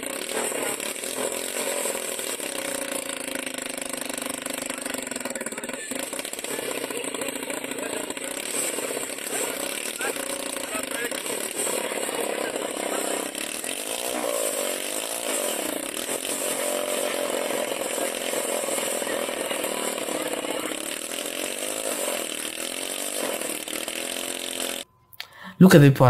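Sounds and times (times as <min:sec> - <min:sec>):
small helicopter engine running: 0:00.0 - 0:24.9.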